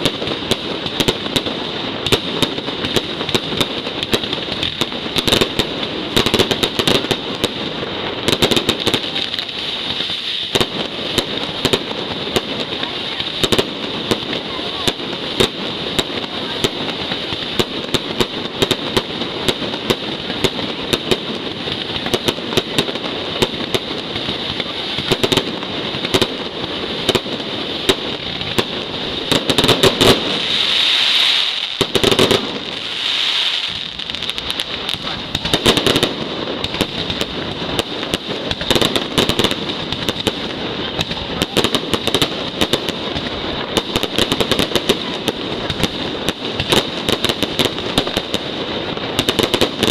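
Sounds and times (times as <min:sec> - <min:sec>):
firecracker barrage: 0:00.0 - 0:49.9.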